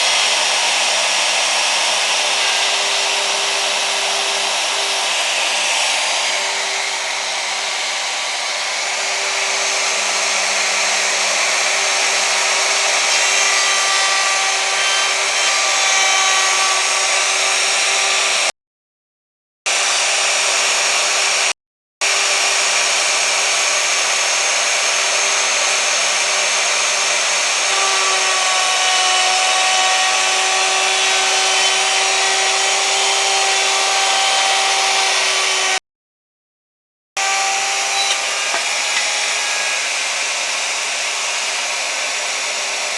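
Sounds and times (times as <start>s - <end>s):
electric router whining: 0.0s - 18.5s, 19.7s - 35.8s, 37.2s - 42.9s.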